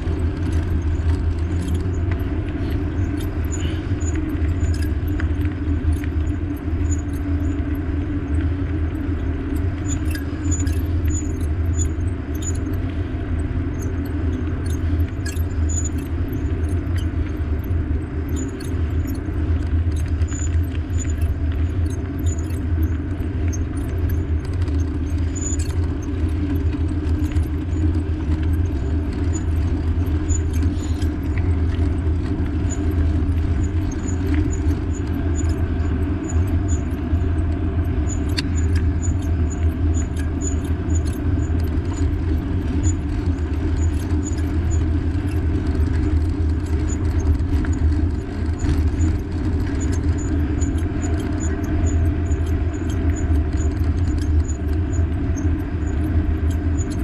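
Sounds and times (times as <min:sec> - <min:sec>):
bike rattling and ticking: 0:00.0 - 0:57.0
wind and road rumble: 0:00.0 - 0:57.0.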